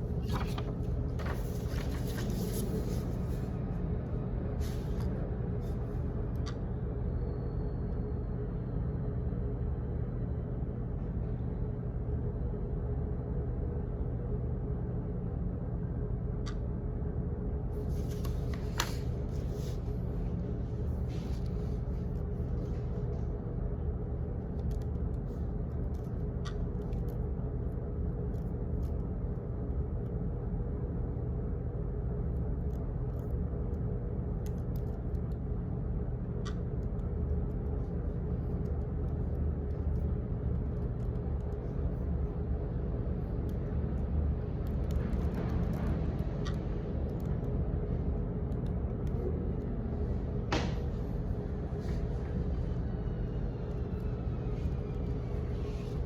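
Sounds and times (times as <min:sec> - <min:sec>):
low rumble with hum: 0:00.0 - 0:56.0.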